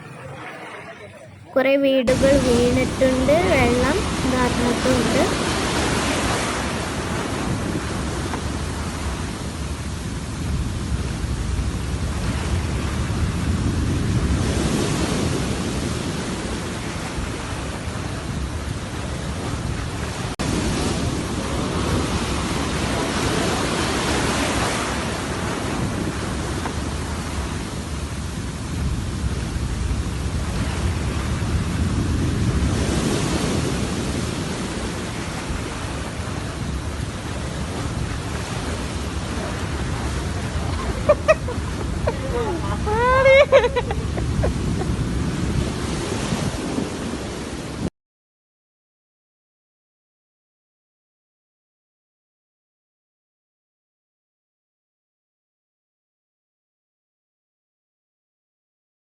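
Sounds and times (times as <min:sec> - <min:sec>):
heavy surf waves breaking: 0:00.0 - 0:47.9.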